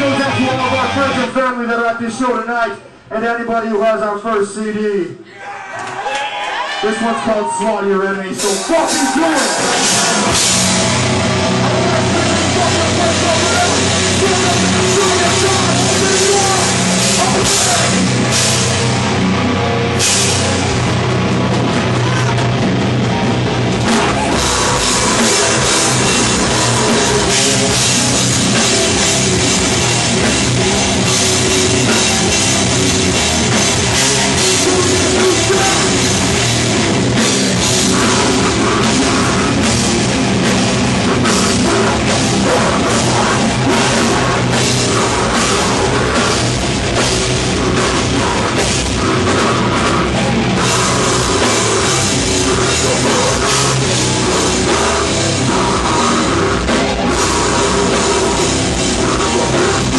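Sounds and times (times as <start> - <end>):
distorted guitars and bass: 0.0 - 5.3, 6.6 - 59.9
fast dense drumming: 8.3 - 59.9.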